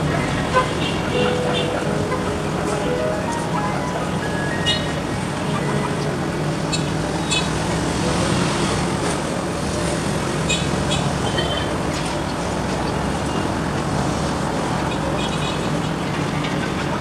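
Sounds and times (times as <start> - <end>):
road traffic rush: 0.0 - 17.0.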